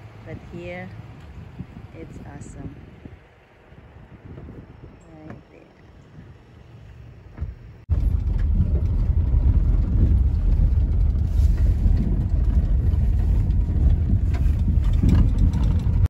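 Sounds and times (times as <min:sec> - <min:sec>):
car driving on dirt road: 0:00.0 - 0:16.0.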